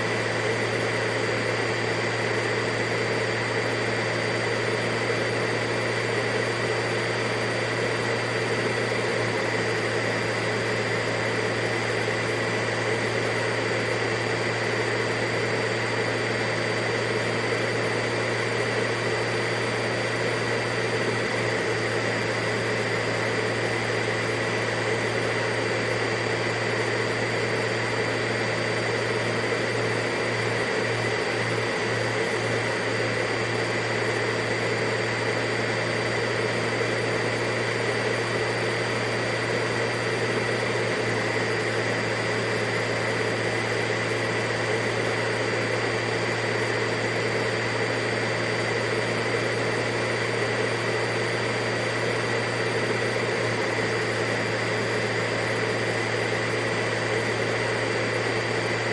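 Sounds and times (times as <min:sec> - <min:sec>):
vacuum cleaner motor running: 0:00.0 - 0:58.9.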